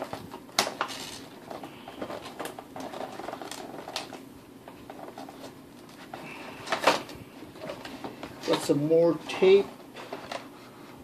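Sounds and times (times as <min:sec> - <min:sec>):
plastic and cardboard crinkling: 0:00.0 - 0:10.7.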